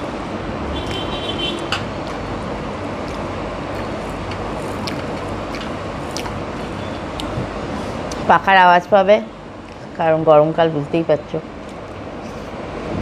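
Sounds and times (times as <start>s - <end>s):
electric fan whooshing: 0.0s - 13.0s.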